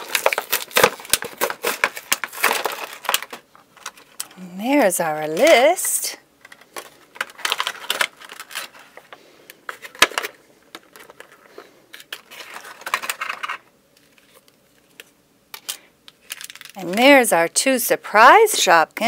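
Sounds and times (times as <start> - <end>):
plastic packaging crackling: 0.0 - 17.1.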